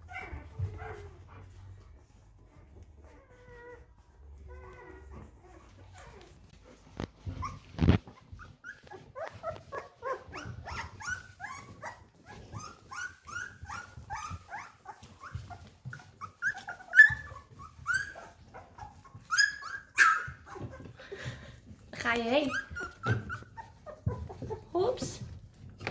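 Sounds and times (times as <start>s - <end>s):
puppies whining and yelping: 0.0s - 25.9s.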